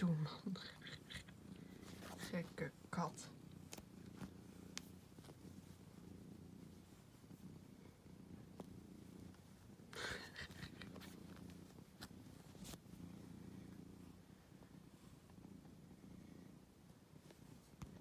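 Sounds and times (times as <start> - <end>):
cat purring: 0.0 - 18.0
rustling: 0.0 - 18.0.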